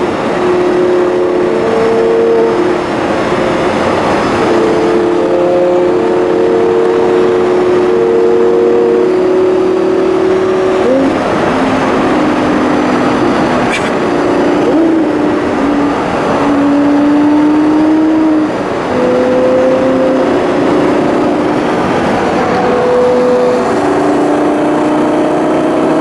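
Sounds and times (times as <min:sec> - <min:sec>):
car engine drone: 0:00.0 - 0:26.0
tyre and road noise: 0:00.0 - 0:26.0.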